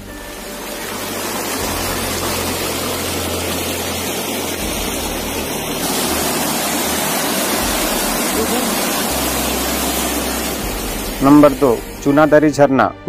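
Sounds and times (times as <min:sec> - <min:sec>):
waterfall rushing over rocks: 0:00.0 - 0:12.1.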